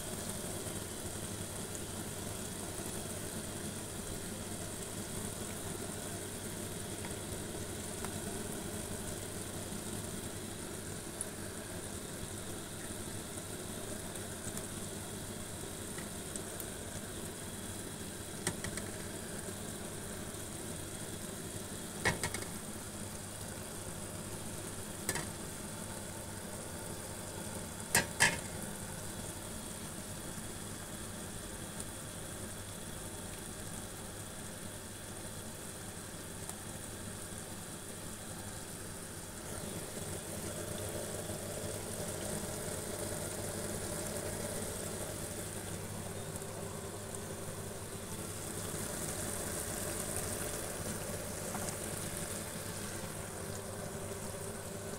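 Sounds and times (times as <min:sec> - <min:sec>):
food sizzling in oil: 0:00.0 - 0:33.2, 0:36.2 - 0:54.9.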